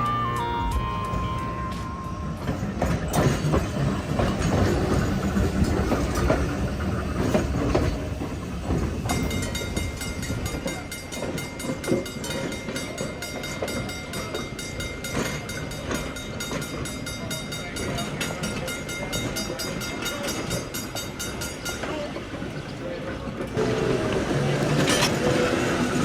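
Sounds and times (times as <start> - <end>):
streetcar rumbling on track: 0.0 - 26.0.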